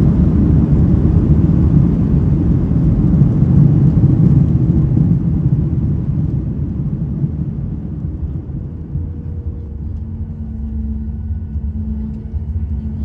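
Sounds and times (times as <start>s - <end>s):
aircraft engines and wheels rumbling: 0.0s - 13.0s.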